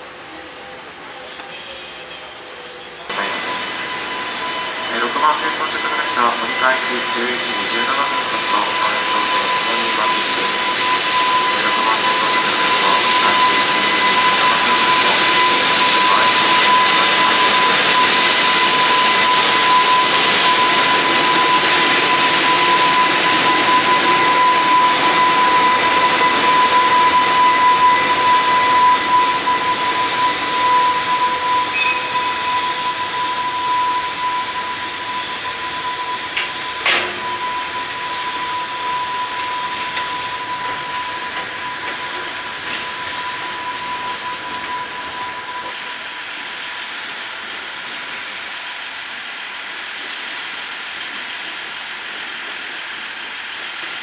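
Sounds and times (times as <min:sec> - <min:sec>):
freight train rolling past: 0:00.0 - 0:54.0
hiss of train wheels: 0:00.0 - 0:54.0
steady high whine: 0:00.0 - 0:54.0.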